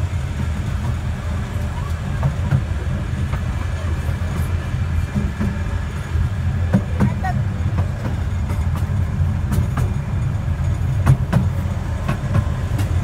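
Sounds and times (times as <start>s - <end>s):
railway carriage rumbling: 0.0s - 13.0s
wheels clicking on rails: 0.0s - 13.0s.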